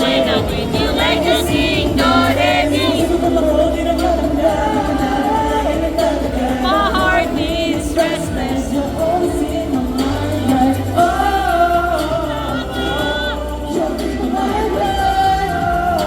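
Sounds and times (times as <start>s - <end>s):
pop song with female vocals: 0.0s - 16.0s
steady beat and bass: 0.0s - 16.0s.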